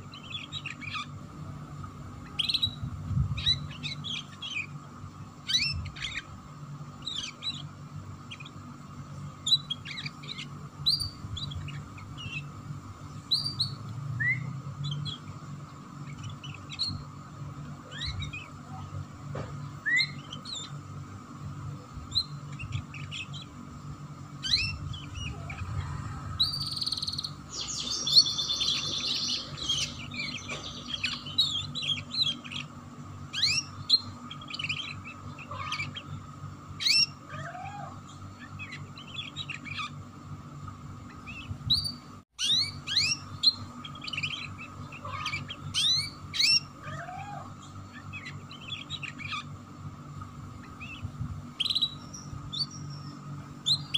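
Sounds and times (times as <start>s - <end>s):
canary singing: 0.0s - 19.1s, 19.7s - 53.9s
faint hum: 0.0s - 53.9s.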